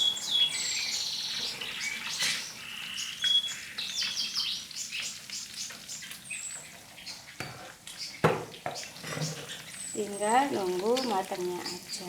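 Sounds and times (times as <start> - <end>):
small birds chirping and singing: 0.0 - 12.0.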